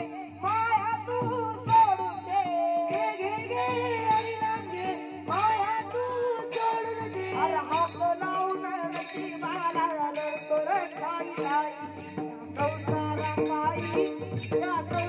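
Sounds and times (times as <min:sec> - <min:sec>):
boy singing into a microphone: 0:00.0 - 0:15.0
hand cymbals struck: 0:00.0 - 0:15.0
instrumental accompaniment: 0:00.0 - 0:15.0.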